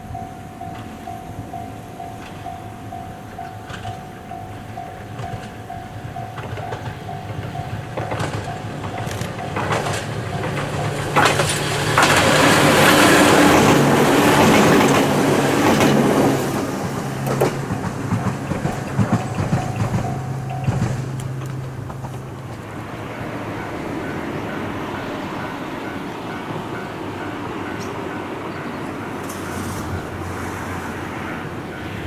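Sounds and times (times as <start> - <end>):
electric train passing: 0.0 - 32.0
wheels clacking over rail joints: 0.2 - 32.0.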